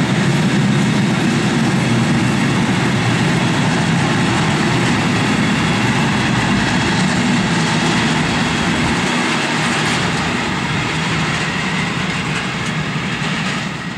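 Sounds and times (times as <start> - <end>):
freight train rumbling past: 0.0 - 13.9.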